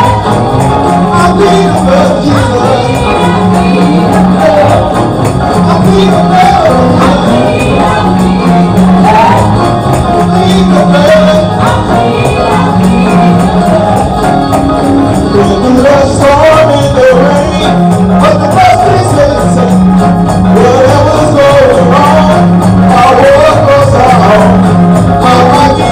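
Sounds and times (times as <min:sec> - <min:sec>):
gospel music with singing: 0:00.0 - 0:25.9
tambourine: 0:00.0 - 0:25.9.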